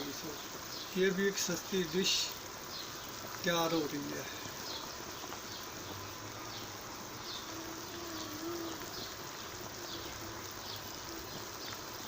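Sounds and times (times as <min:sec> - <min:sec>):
broth boiling and bubbling: 0:00.0 - 0:12.0.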